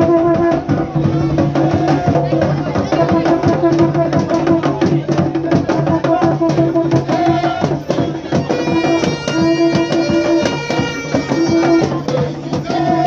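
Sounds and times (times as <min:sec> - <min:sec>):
drum-driven carnival music: 0:00.0 - 0:13.0.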